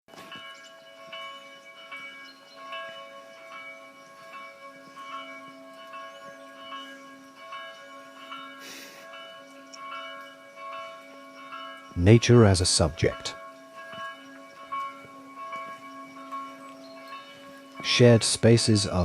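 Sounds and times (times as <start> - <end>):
bell-like chimes ringing: 0.1 - 19.0.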